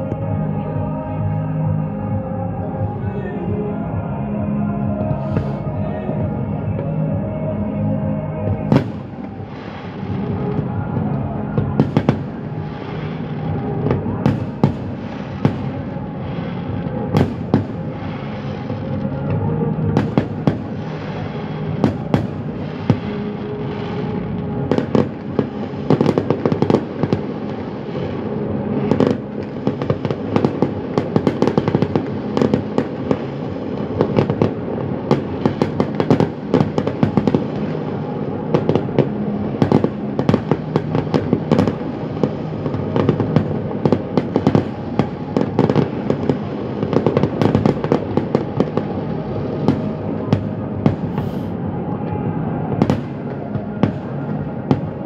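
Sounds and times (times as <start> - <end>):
fireworks bangs and crackles: 4.8 - 55.0.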